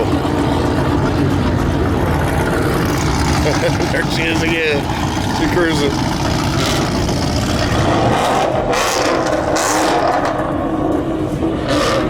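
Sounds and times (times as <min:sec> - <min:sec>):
car engine rumbling past: 0:00.0 - 0:12.0.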